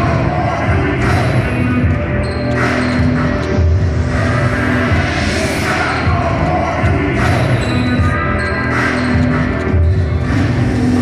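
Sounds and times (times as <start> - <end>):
loud bass-heavy music over sound system: 0.0 - 11.0.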